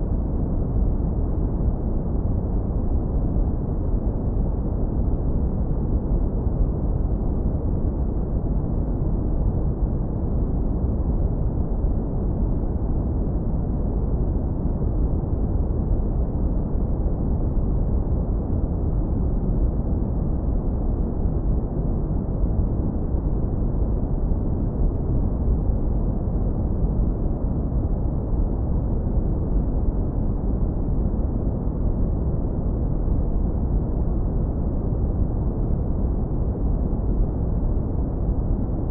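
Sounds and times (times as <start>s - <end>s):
deep brown noise rumble: 0.0s - 38.9s.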